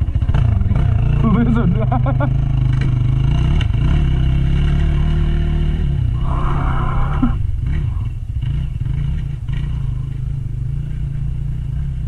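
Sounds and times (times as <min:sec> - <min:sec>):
dirt bike engine at low revs: 0:00.0 - 0:12.0.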